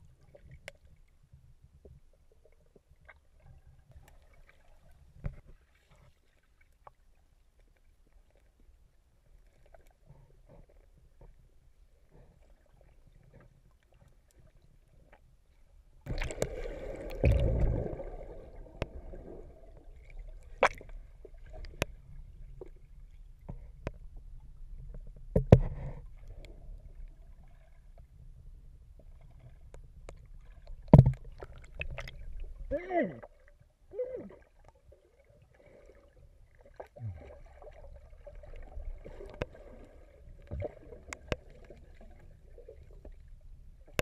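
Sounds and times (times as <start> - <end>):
faint low underwater rumble: 0.0 - 44.0.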